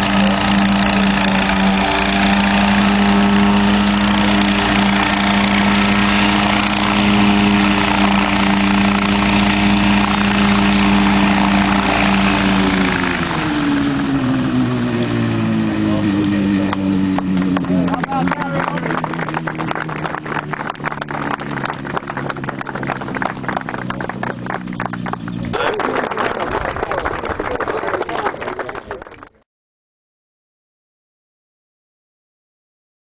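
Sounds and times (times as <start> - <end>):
helicopter engine and rotors: 0.0 - 29.2.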